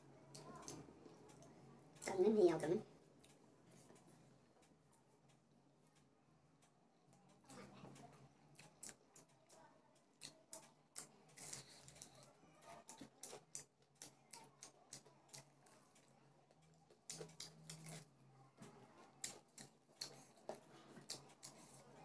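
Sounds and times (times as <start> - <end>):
soft chewing and mouth smacks: 0.1 - 2.2, 3.0 - 22.0.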